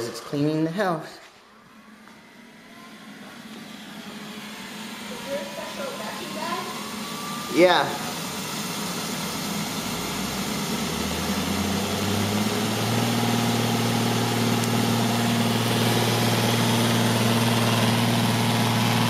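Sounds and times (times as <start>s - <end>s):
robot vacuum motor hum: 1.6s - 19.0s.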